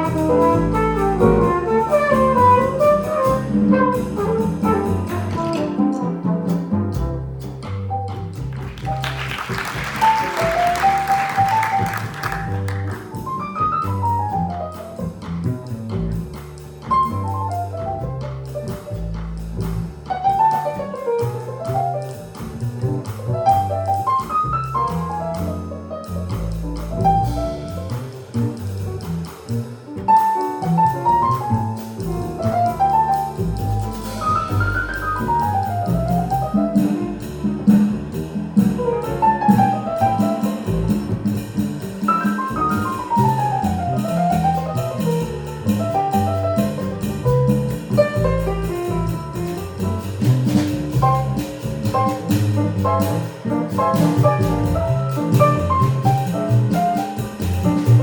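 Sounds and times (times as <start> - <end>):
double bass walking: 0.0 - 58.0
small jazz combo playing: 0.0 - 58.0.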